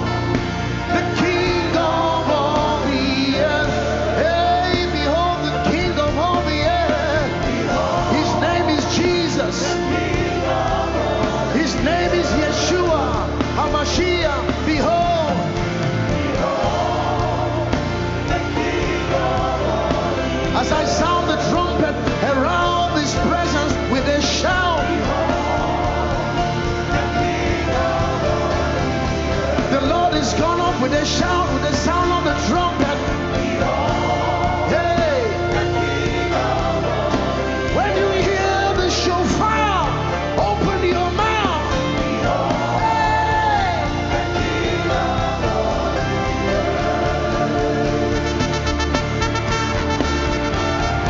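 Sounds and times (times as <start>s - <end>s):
person singing: 0.0s - 48.5s
gospel band playing: 0.0s - 51.0s.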